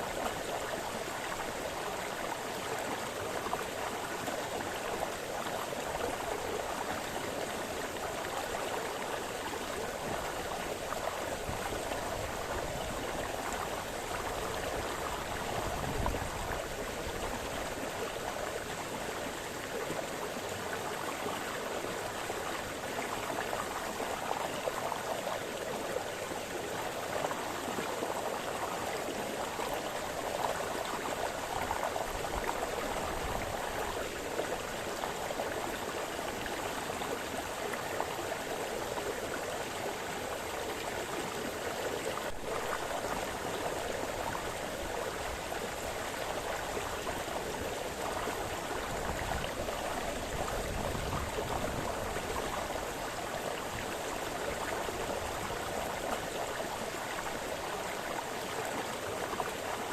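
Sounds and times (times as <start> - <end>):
brook burbling over stones: 0.0 - 59.9.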